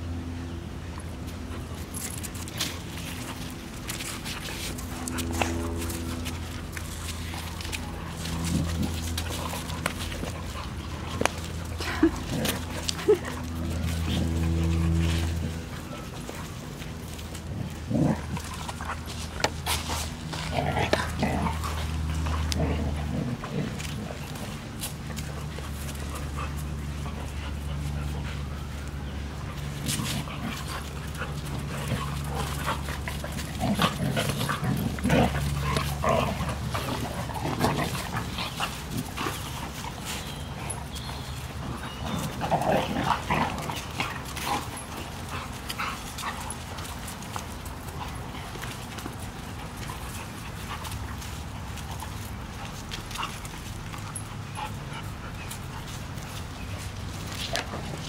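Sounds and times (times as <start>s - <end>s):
steady low hum: 0.0s - 58.0s
dogs scuffling: 0.1s - 58.0s.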